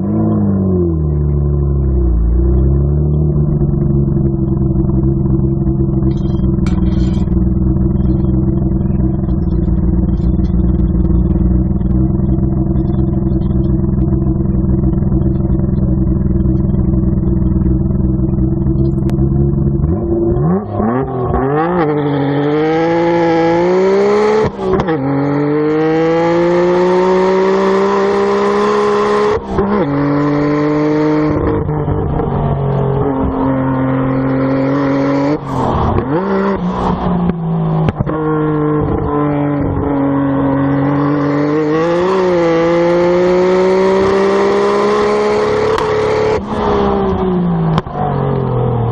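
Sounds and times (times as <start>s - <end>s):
car engine accelerating hard: 0.0s - 48.9s.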